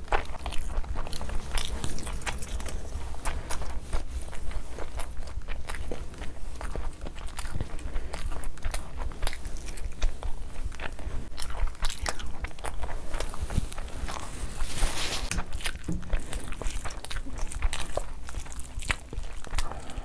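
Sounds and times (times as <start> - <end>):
hand squishing rice: 0.0 - 20.0
wet chewing smacks: 0.0 - 20.0.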